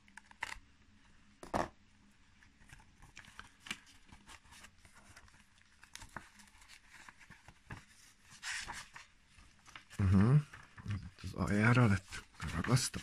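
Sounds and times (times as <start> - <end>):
paper pages rustling and crackling: 2.4 - 13.0.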